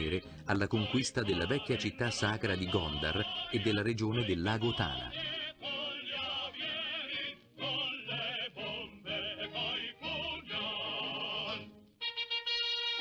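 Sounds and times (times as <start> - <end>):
operatic singing with vibrato: 0.0 - 13.0.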